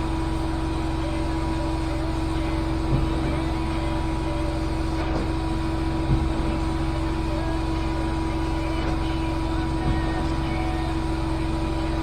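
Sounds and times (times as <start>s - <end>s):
carpet cleaning machine running: 0.0s - 12.0s.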